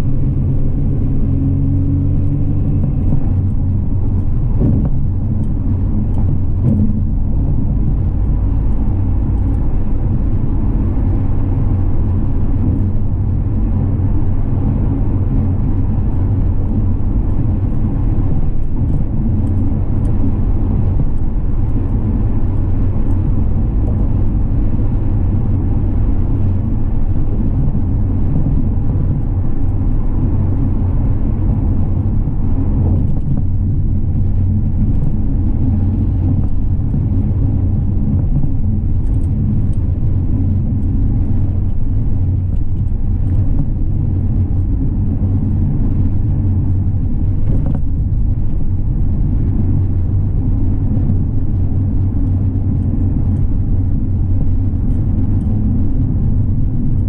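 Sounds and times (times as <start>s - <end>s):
car driving: 0.0s - 57.0s.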